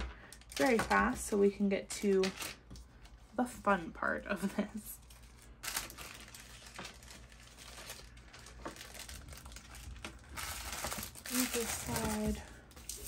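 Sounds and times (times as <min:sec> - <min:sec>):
plastic bags crinkling: 0:00.0 - 0:03.0, 0:04.4 - 0:13.0.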